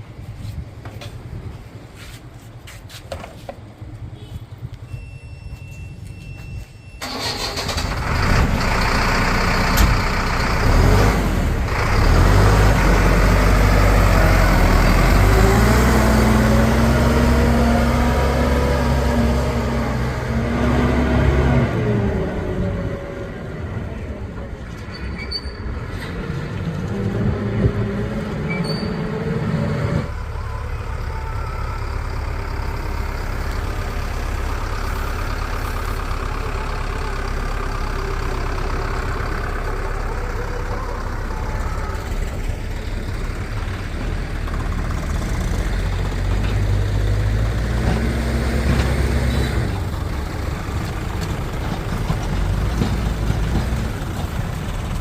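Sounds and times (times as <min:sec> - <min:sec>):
heavy diesel engine running: 0:07.0 - 0:55.0.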